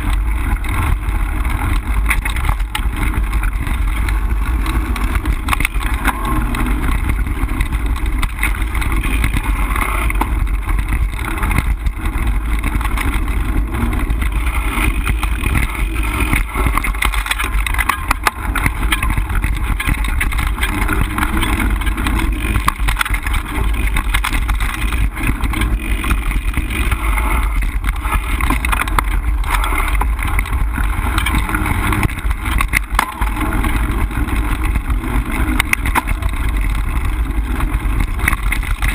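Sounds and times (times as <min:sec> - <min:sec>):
bike rattles and knocks: 0:00.0 - 0:38.9.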